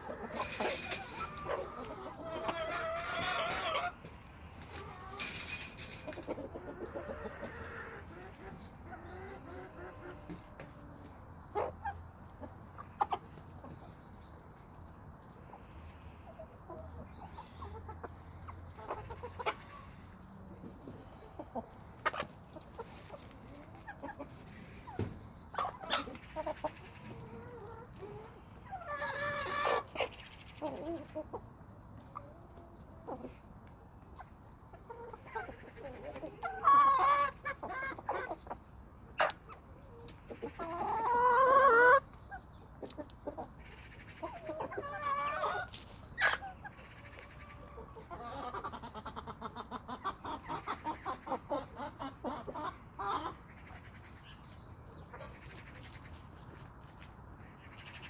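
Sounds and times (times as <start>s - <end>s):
chickens clucking and calling: 0.0s - 58.0s.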